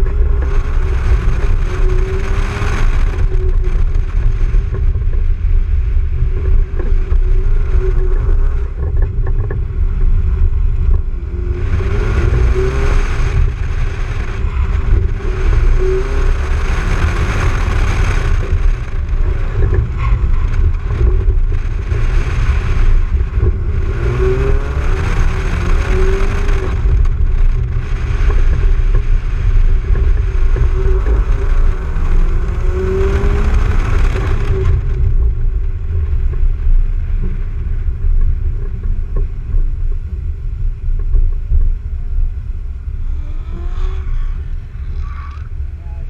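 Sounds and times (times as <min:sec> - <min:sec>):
car engine revving: 0:00.0 - 0:40.5, 0:41.2 - 0:46.0
wind and tyre hiss: 0:00.0 - 0:46.0.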